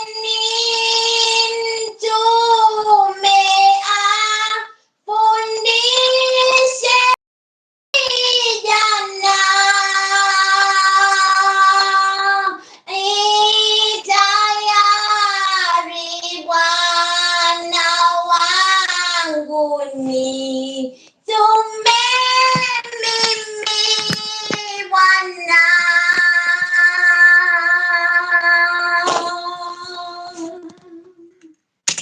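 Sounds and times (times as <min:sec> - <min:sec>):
high-pitched voice singing: 0:00.0 - 0:07.2, 0:08.0 - 0:31.6.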